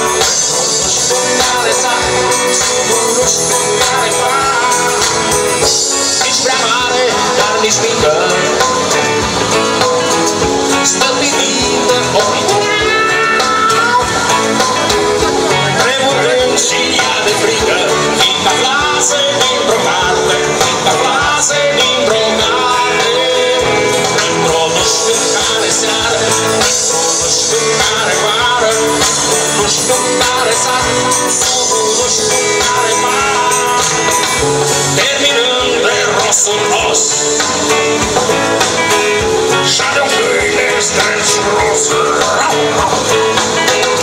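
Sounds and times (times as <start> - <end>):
electric guitars: 0.0 - 44.0
live rock band: 0.0 - 44.0.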